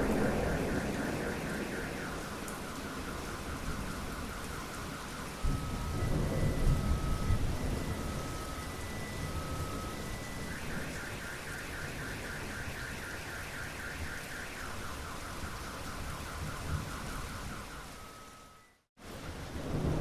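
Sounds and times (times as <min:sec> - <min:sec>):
rolling thunder: 0:00.0 - 0:17.7, 0:19.3 - 0:20.0
steady rain: 0:00.0 - 0:20.0.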